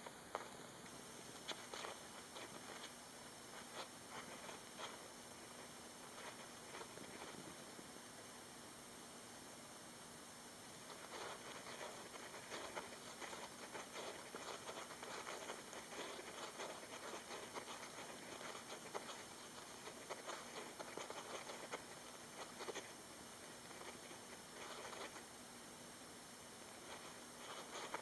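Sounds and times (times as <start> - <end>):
hamster digging in sand: 0.0 - 7.8, 10.7 - 25.4, 26.6 - 28.0.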